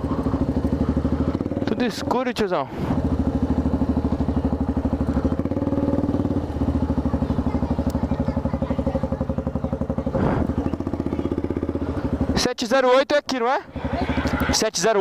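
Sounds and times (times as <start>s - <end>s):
motorcycle idling: 0.0s - 15.0s.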